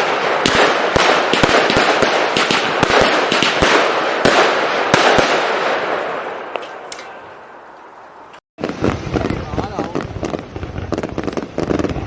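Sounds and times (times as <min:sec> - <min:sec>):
firework crackling and bangs: 0:00.0 - 0:07.0, 0:08.6 - 0:12.0.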